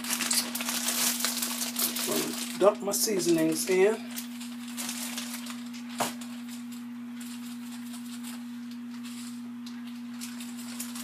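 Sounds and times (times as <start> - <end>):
low electrical hum: 0.0 - 11.0
plastic bag rustling: 0.0 - 11.0.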